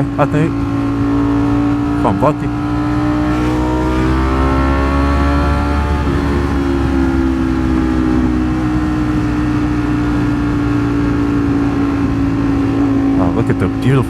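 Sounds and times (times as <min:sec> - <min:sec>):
wind rush: 0:00.0 - 0:13.8
motorcycle engine cruising: 0:00.0 - 0:14.0.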